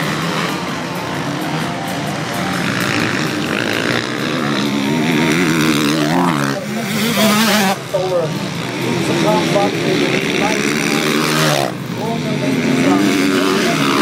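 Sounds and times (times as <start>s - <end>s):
motocross motorcycle engines racing: 0.0s - 14.0s.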